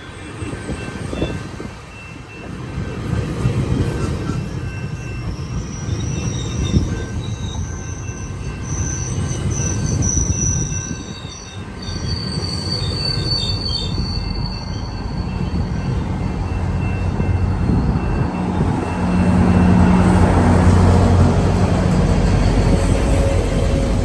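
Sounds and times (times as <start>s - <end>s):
train rumbling past: 0.0s - 24.0s
train wheels squealing on rails: 0.0s - 24.0s.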